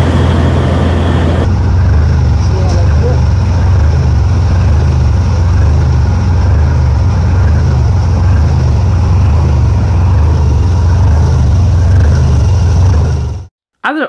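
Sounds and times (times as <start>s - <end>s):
water rushing along hull: 0.0s - 12.2s
boat diesel engine drone: 0.0s - 13.5s.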